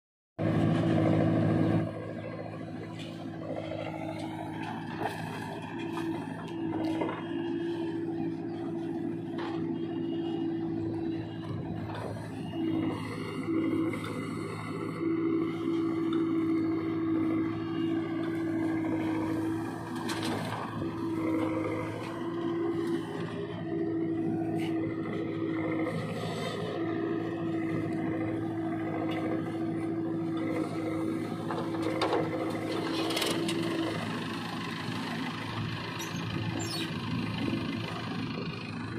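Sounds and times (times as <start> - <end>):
diesel engines humming: 0.4 - 38.9.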